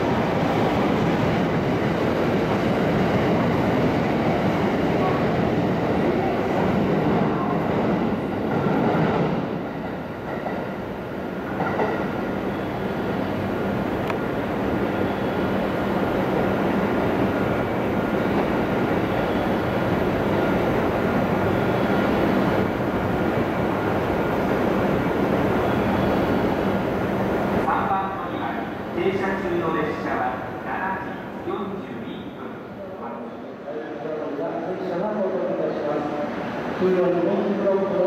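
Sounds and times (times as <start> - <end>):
train wheels rumbling on rails: 0.0 - 32.7.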